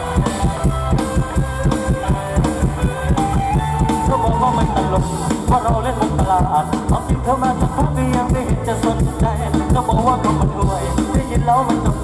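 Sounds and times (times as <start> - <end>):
bass line: 0.0 - 12.0
fast drum beat: 0.0 - 12.0
held melody line: 0.0 - 12.0.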